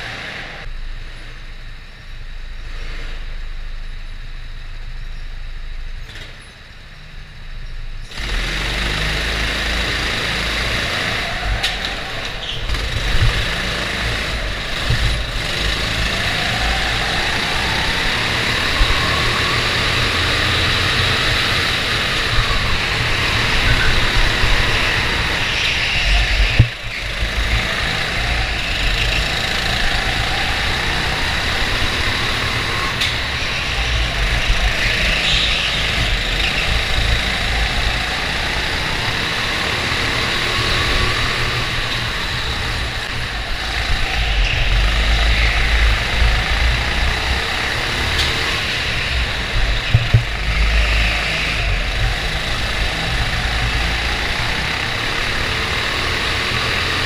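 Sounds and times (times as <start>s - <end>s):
go-kart engine rumbling: 0.0s - 57.0s.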